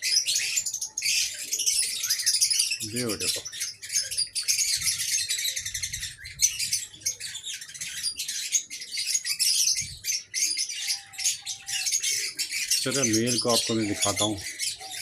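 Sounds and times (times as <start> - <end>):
birds chirping and chattering: 0.0 - 15.0.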